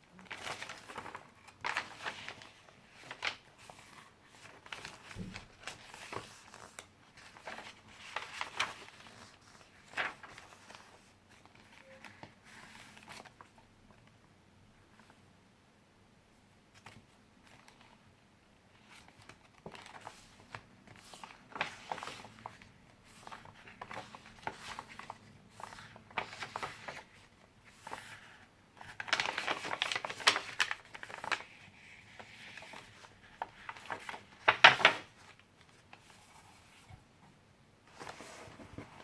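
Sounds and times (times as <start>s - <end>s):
paper pages rustling: 0.2s - 14.1s, 18.7s - 37.0s, 37.8s - 39.0s.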